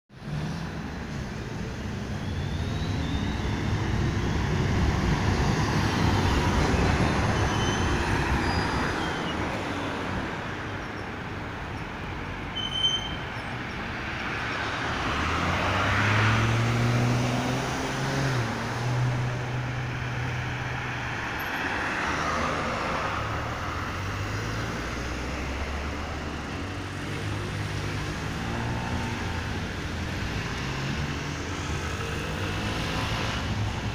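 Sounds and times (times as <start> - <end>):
cars driving past: 0.2 - 33.9.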